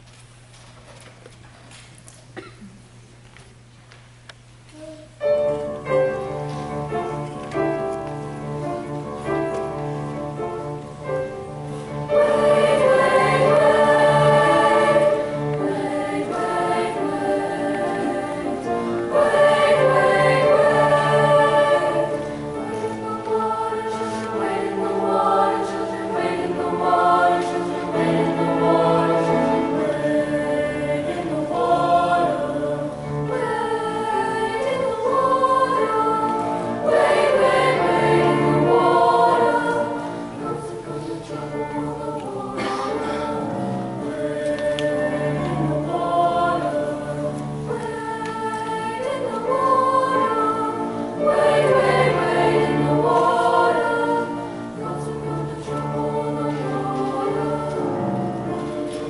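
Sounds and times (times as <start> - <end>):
choir singing in harmony: 5.2 - 59.0.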